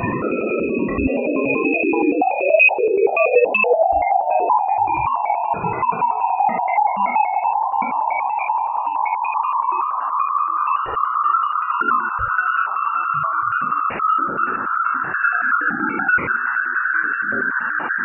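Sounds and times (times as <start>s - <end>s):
eerie electronic warble: 0.0s - 18.0s.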